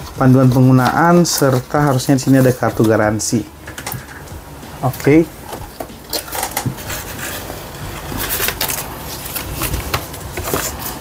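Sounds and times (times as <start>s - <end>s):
paper and cardboard rustling: 0.0s - 11.0s.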